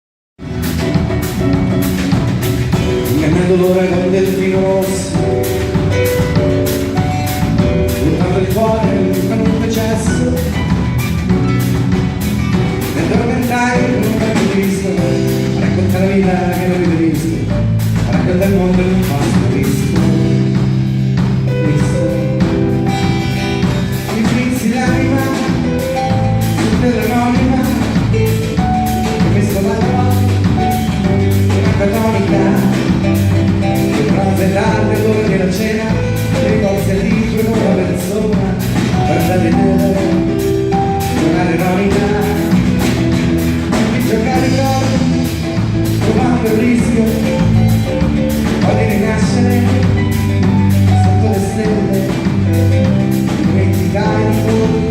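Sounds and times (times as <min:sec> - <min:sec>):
bass line: 0:00.4 - 0:54.9
drum kit beat: 0:00.4 - 0:54.9
reggae band playing: 0:00.4 - 0:54.9.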